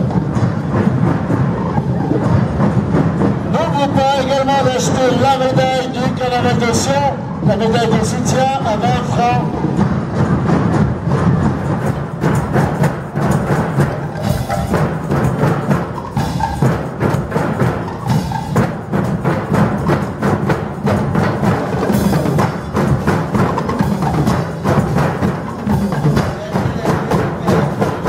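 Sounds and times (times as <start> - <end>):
percussion band drumming: 0.0 - 28.0.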